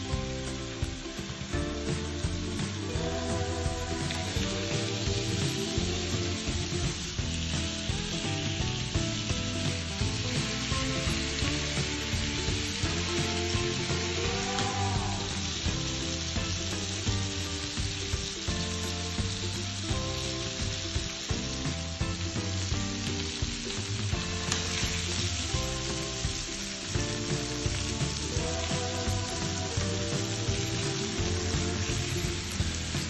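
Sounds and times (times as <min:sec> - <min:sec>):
background music: 0:00.0 - 0:33.0
food sizzling in a pan: 0:00.0 - 0:33.0.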